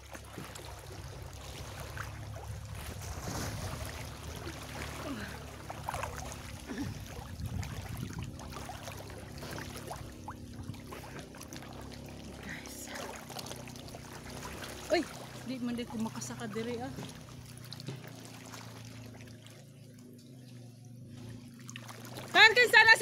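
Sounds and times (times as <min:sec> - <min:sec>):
low steady hum: 0:00.0 - 0:23.0
water sloshing and splashing: 0:00.0 - 0:23.0.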